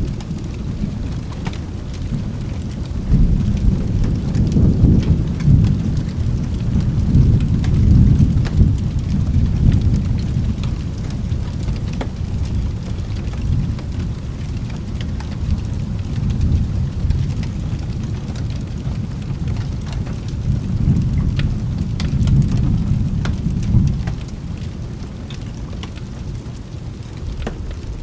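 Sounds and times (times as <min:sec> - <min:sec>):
low rolling thunder: 0:00.0 - 0:28.0
steady rain: 0:00.0 - 0:28.0.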